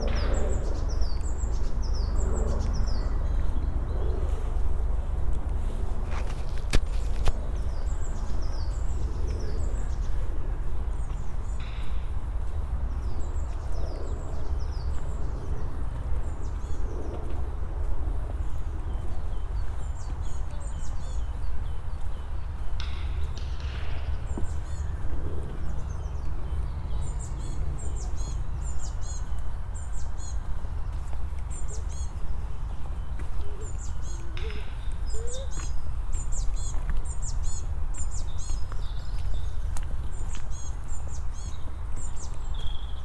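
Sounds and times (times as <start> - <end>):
footsteps on a path: 0.0 - 43.0
steady low rumble: 0.0 - 43.0
small birds chirping: 5.6 - 43.0.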